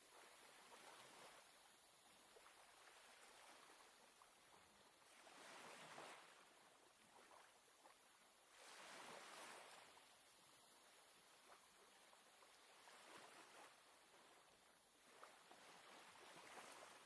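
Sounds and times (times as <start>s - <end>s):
faint sea waves washing in: 0.0s - 17.0s.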